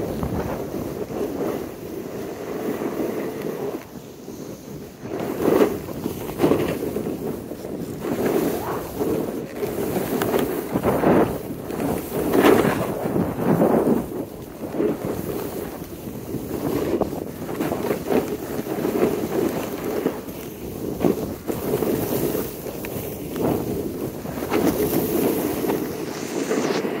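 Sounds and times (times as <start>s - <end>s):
sliding over snow: 0.0s - 27.0s
wind on microphone: 0.0s - 27.0s.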